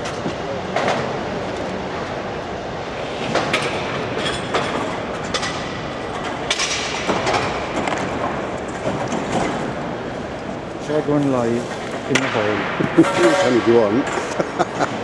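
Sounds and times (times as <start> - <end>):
busy exhibition hall din: 0.0 - 15.0.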